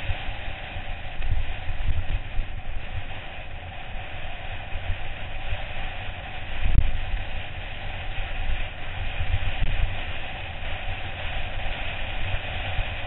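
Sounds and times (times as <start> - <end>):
mountain bike rattling on rough trail: 0.0 - 13.0
wind buffeting microphone: 0.0 - 13.0.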